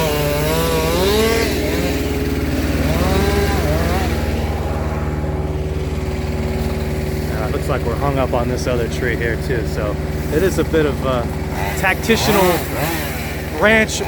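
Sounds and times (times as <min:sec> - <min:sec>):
chainsaw revving: 0:00.0 - 0:14.0
heavy engine running: 0:00.0 - 0:14.0.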